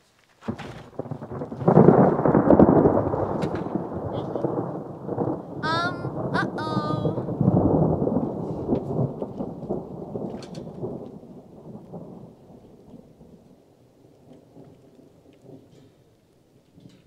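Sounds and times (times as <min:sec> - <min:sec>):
thunderclap rumble: 0:00.4 - 0:17.0.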